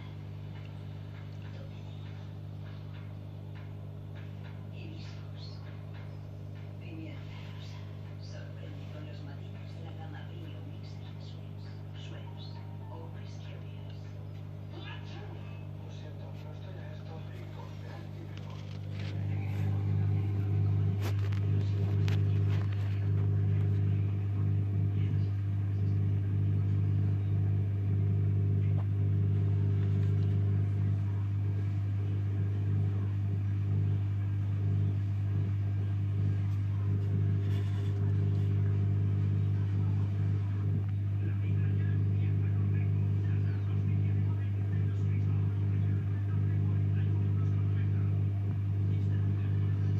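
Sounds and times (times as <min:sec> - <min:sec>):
aquarium pump humming: 0:00.0 - 0:49.9.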